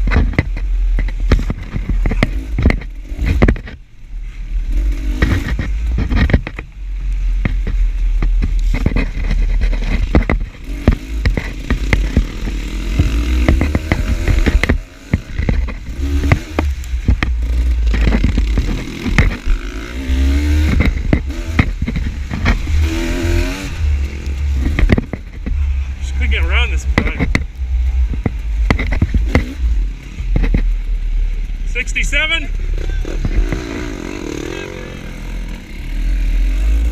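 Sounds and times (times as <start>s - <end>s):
bike clattering over rough ground: 0.0s - 4.0s, 4.7s - 30.8s, 32.8s - 35.6s
heavy low rumble: 0.0s - 36.9s
dirt bike engine revving: 1.2s - 6.6s, 8.7s - 36.9s.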